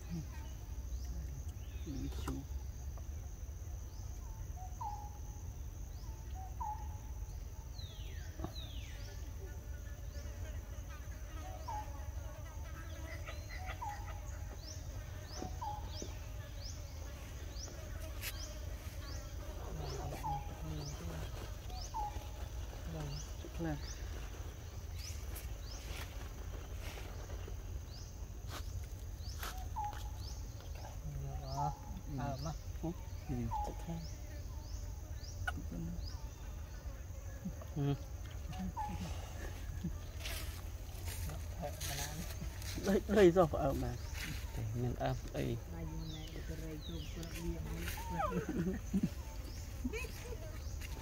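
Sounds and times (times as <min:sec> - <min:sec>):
insects droning: 0:00.0 - 0:51.0
bird calls: 0:04.0 - 0:09.3, 0:10.2 - 0:51.0.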